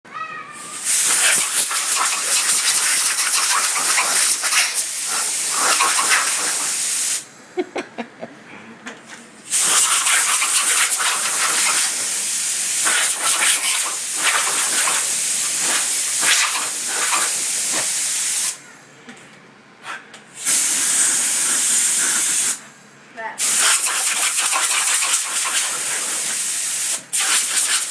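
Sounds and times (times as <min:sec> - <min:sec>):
compressed air hissing from hose nozzle: 0:00.6 - 0:07.3, 0:09.5 - 0:18.6, 0:20.4 - 0:22.7, 0:23.4 - 0:27.9.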